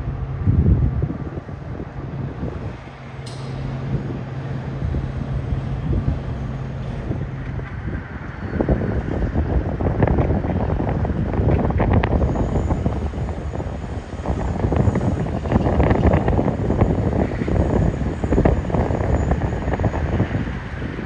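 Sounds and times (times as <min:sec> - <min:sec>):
low train rumble: 0:00.0 - 0:21.0.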